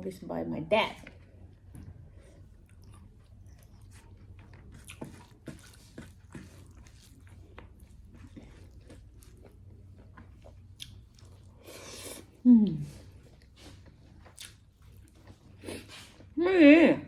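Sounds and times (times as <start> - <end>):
low room hum: 0.0 - 17.0
person chewing food: 1.0 - 16.4.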